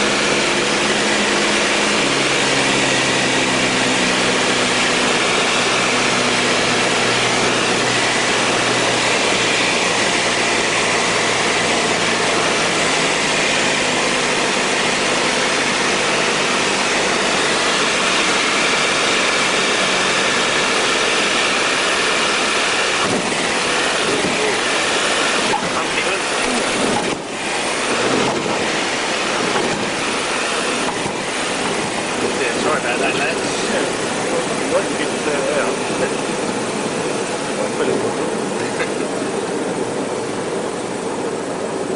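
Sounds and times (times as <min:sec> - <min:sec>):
aeroplane engine hum: 0:00.0 - 0:41.9
rushing airflow: 0:00.0 - 0:41.9.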